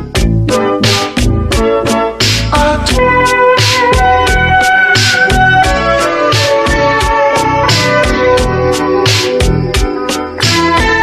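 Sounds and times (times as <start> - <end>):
steady drum beat with snare: 0.1 - 11.0.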